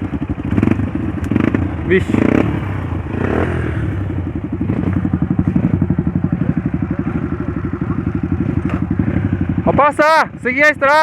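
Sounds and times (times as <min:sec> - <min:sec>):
motorcycle engine puttering: 0:00.0 - 0:10.0.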